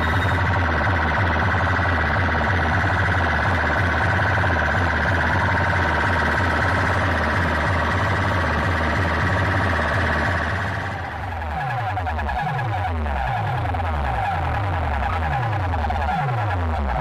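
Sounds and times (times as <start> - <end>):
rapid pulsing heavy bass: 0.0 - 17.0
siren-like synth tone: 0.0 - 17.0.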